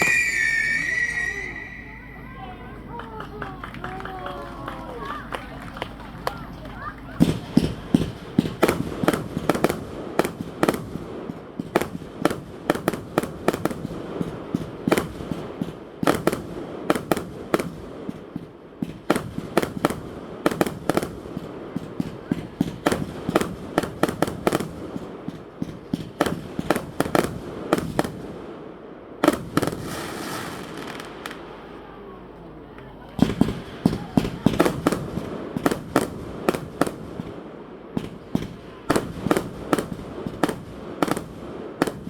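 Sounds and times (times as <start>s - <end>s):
fireworks bangs and cracks: 0.0s - 42.0s.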